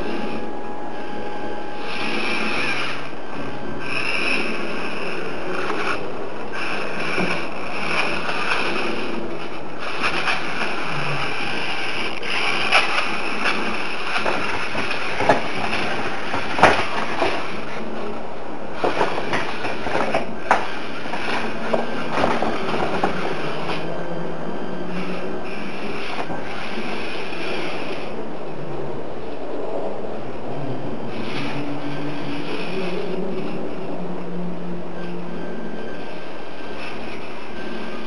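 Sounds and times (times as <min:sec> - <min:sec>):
small electric motors whining: 0:00.0 - 0:28.7, 0:30.6 - 0:38.0.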